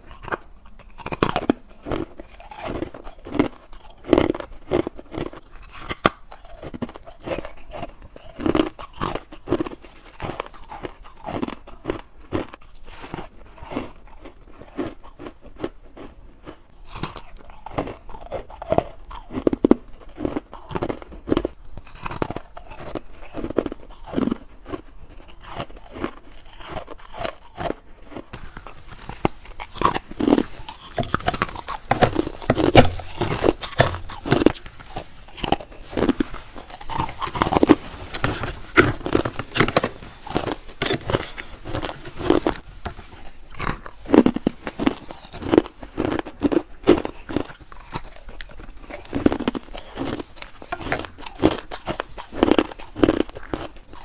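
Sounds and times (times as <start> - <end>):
chewing crisp frost: 0.0 - 54.0.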